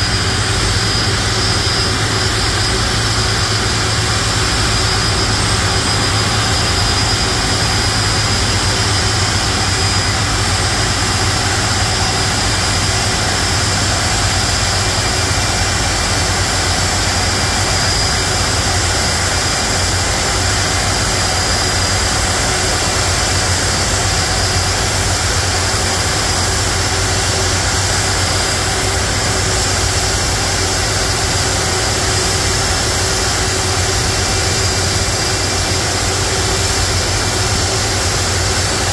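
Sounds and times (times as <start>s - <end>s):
jet engines idling with whine: 0.0s - 38.9s.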